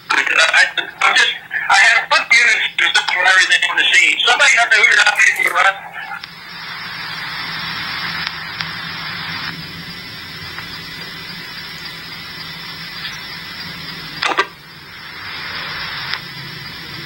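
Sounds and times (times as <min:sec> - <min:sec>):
faint low hum: 0:00.0 - 0:16.0
loud burst of noise: 0:00.0 - 0:17.0
radio static hiss: 0:00.0 - 0:17.0.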